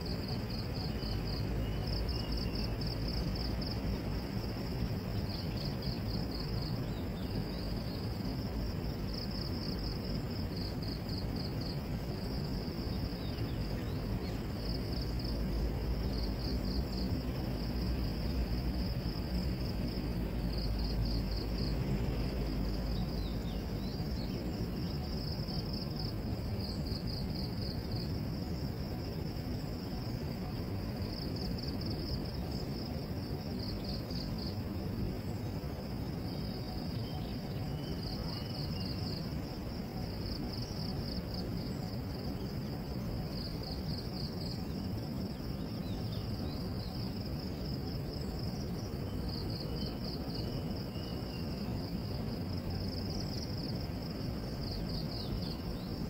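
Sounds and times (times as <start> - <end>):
insects trilling in bursts: 0.0 - 56.0.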